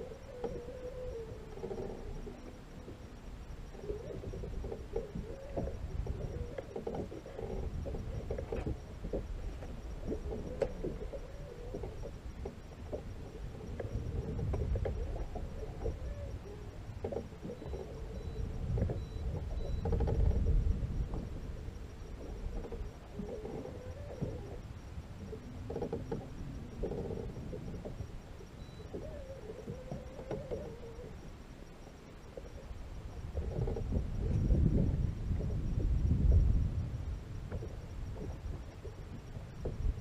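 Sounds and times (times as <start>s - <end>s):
faint wavering hum: 0.0s - 40.0s
water rumble around boat: 0.0s - 40.0s
wind: 0.0s - 40.0s.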